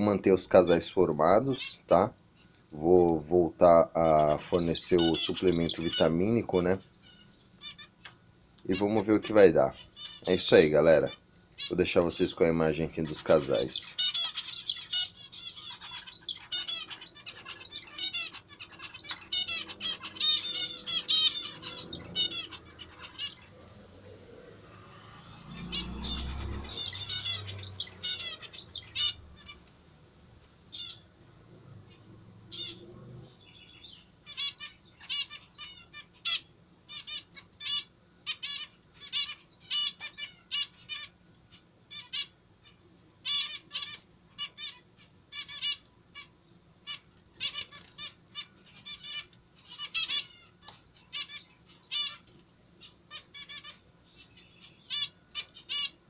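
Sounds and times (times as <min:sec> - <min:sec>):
finches chirping: 0:00.0 - 0:29.8, 0:30.7 - 0:56.0.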